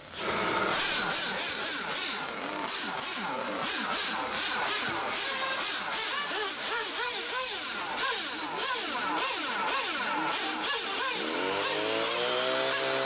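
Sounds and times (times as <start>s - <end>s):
model car engines buzzing: 0.0s - 13.0s.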